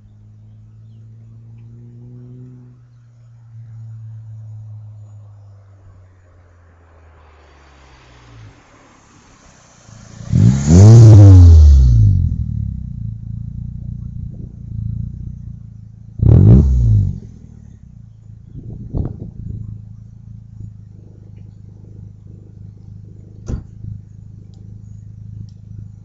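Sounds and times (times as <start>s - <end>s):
car engine revving: 0.0s - 5.2s, 6.9s - 26.0s
car engine idling: 0.0s - 7.2s, 8.2s - 26.0s.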